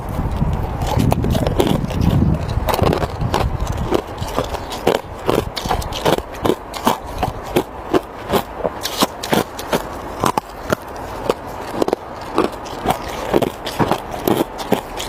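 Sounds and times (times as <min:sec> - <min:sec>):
ice crunched between teeth: 0:00.3 - 0:15.0.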